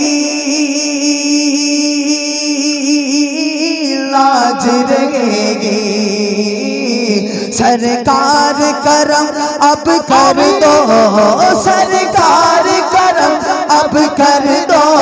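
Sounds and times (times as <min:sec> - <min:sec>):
man singing through microphone: 0:00.0 - 0:15.0.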